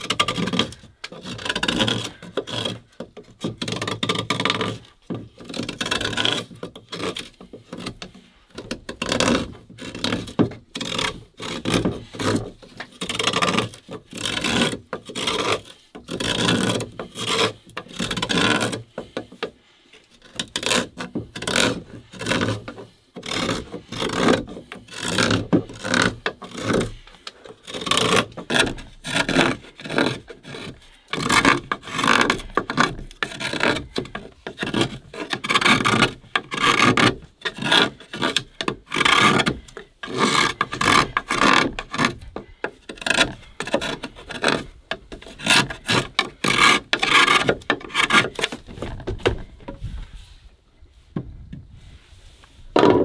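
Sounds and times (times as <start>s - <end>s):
knife scraping bamboo: 0.0s - 50.4s.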